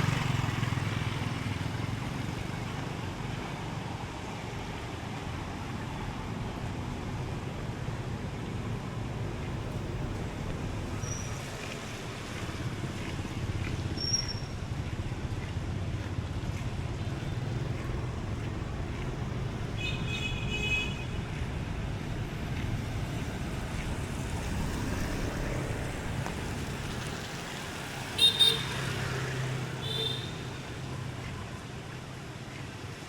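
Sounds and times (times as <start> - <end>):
passing vehicles rumbling: 0.0 - 33.0.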